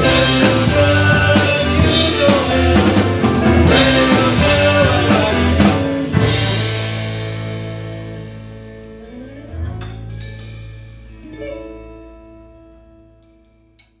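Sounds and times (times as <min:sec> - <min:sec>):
live rock band: 0:00.0 - 0:13.4.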